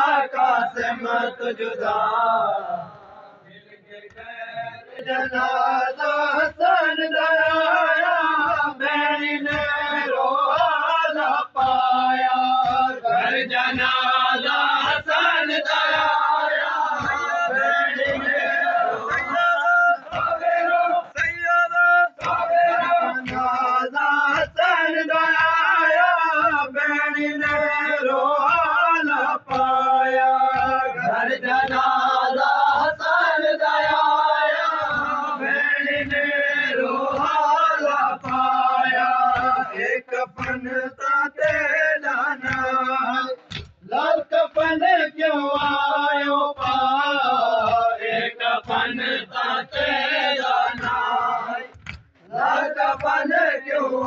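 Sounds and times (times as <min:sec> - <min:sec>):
men chanting a lament: 0:00.0 - 0:54.0.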